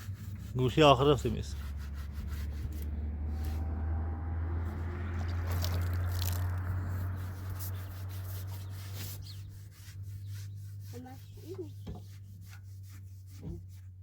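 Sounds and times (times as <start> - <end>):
rubbing scrubbing: 0.0 - 3.7, 5.2 - 14.0.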